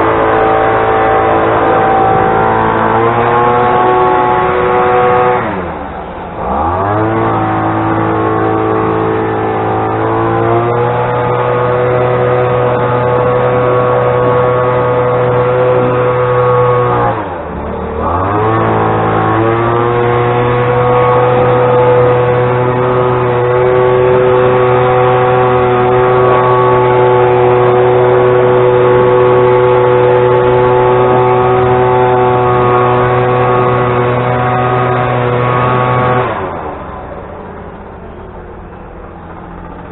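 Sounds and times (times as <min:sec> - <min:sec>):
engine running at high speed: 0:00.0 - 0:39.9.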